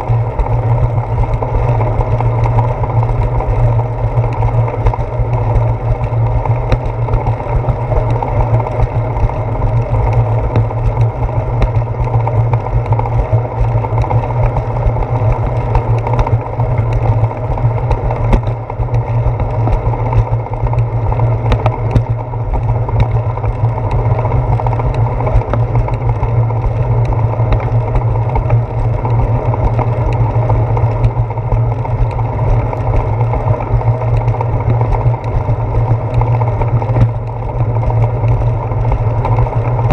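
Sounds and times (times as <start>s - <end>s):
bicycle rolling on concrete: 0.0s - 39.9s.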